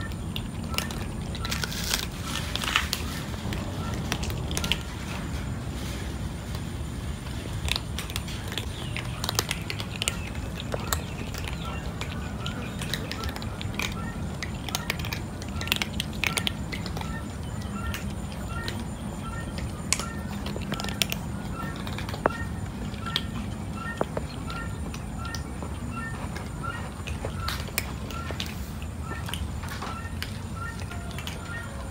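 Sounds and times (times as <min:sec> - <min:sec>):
cats crunching dry kibble: 0:00.0 - 0:31.9.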